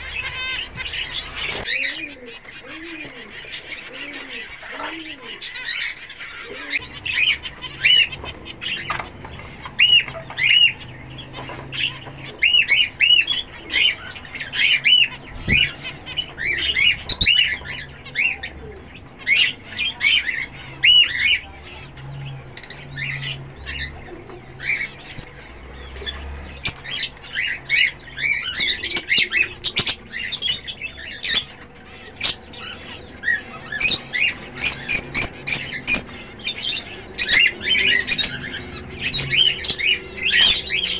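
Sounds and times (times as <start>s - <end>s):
finches calling: 0.0s - 40.9s.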